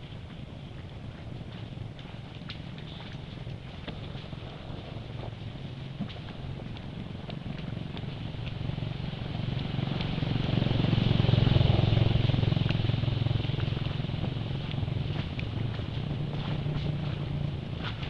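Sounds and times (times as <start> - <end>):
motor engine droning: 0.0 - 18.0.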